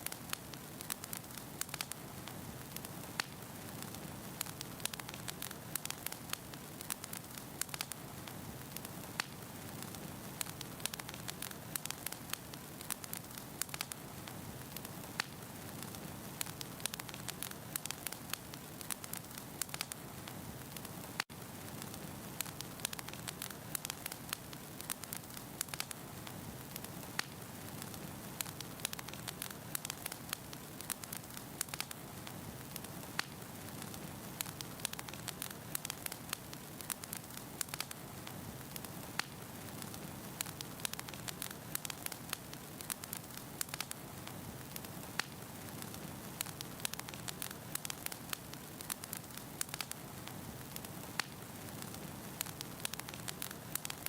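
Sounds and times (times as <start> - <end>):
burning logs crackling and popping: 0.0 - 54.0.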